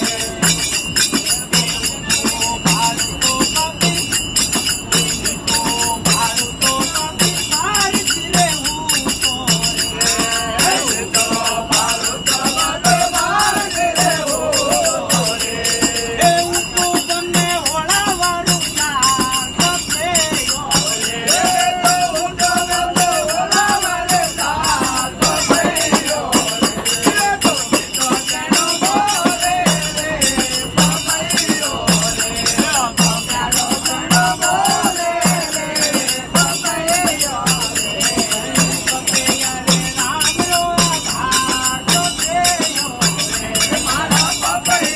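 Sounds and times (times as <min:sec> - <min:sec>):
group devotional singing: 0:00.0 - 0:44.9
metallic jingling percussion: 0:00.0 - 0:44.9.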